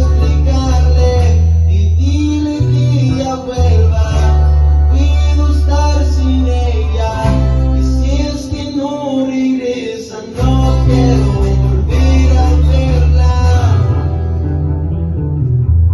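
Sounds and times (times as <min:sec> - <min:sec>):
heavy bass line: 0:00.0 - 0:09.1, 0:10.4 - 0:15.9
guitar melody: 0:00.0 - 0:15.9
strummed guitar: 0:00.0 - 0:15.9.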